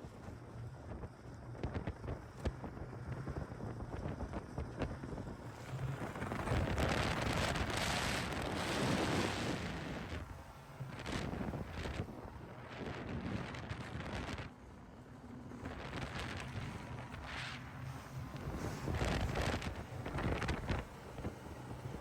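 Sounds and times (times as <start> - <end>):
wind buffeting microphone: 0.9 - 14.6, 15.6 - 22.0.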